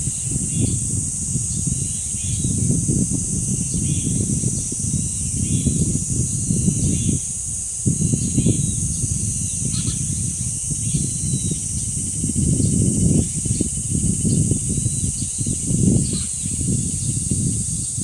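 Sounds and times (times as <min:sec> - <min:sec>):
cicadas droning: 0:00.0 - 0:18.0
wind on microphone: 0:00.0 - 0:18.0.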